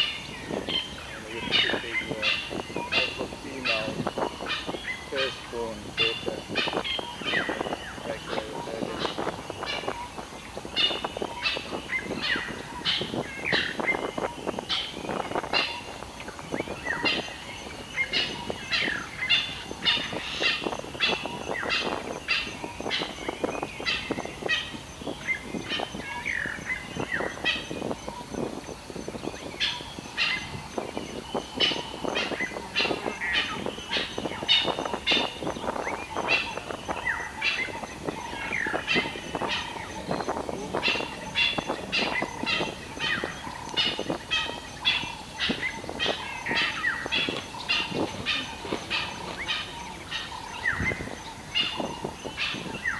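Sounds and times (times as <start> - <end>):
birds chirping and calling: 0.0 - 52.9.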